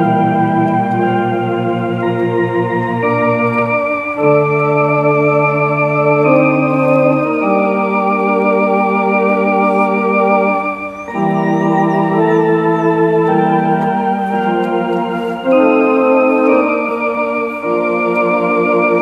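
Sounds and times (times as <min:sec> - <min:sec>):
electronic organ playing hymn chords: 0:00.0 - 0:19.0.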